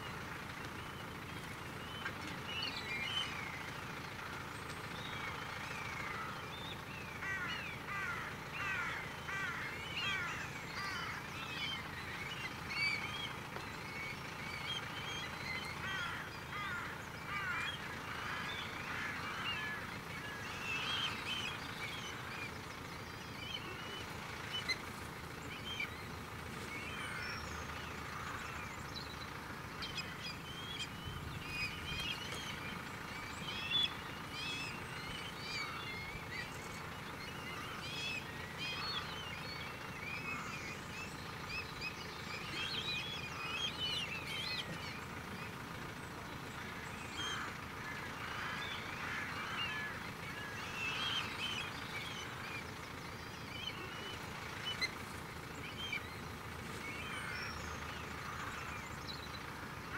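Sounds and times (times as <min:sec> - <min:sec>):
flock of birds calling: 0:00.0 - 0:59.9
tractor engine running: 0:00.0 - 0:59.9.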